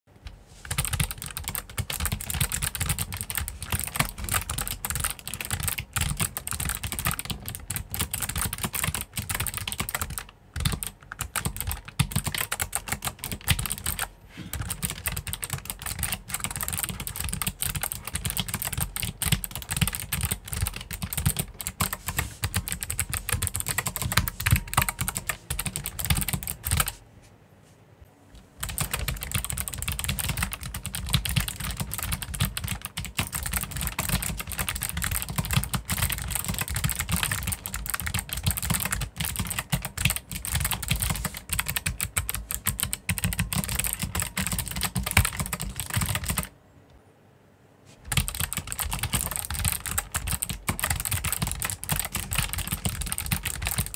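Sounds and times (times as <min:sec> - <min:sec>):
mechanical keyboard typing: 0:00.6 - 0:27.0, 0:28.6 - 0:46.5, 0:48.1 - 0:53.9.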